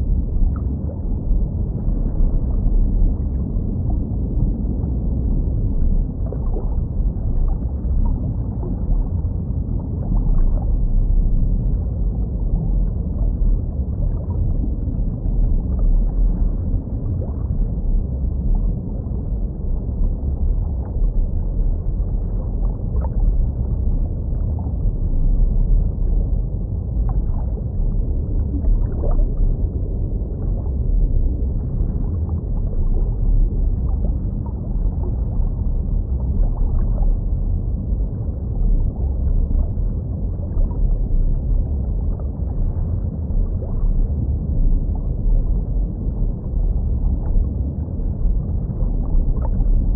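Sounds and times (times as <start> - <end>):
low rumble of moving water: 0.0 - 49.9
water gurgling: 0.0 - 49.9
faint bubble ticks: 0.1 - 49.9.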